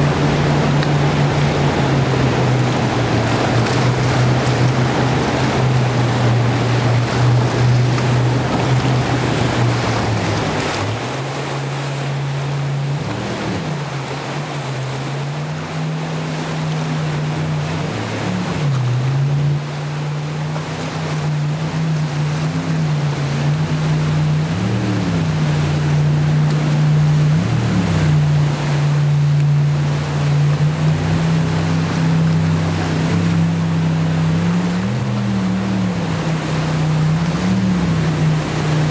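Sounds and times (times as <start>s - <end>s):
boat engine running hard: 0.0s - 38.9s
rushing rapids: 0.0s - 38.9s.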